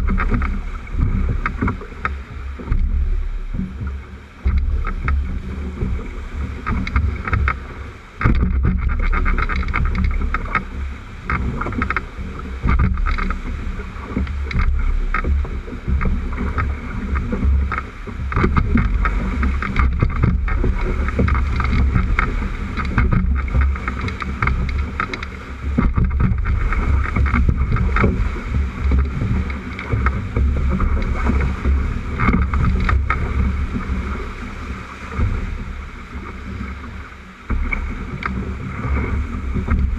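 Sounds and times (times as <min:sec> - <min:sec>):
whitewater rapids rushing: 0:00.0 - 0:39.9
wind buffeting microphone: 0:00.0 - 0:39.9.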